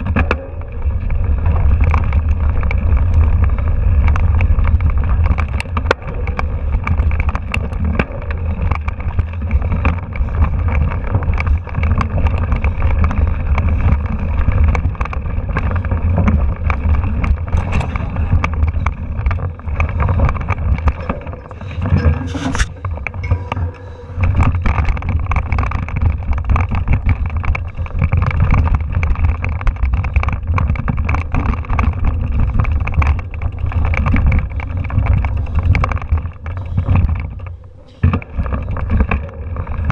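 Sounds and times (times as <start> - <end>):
bike frame clattering and rattling: 0.0 - 39.9
wind rumble on microphone: 0.0 - 39.9.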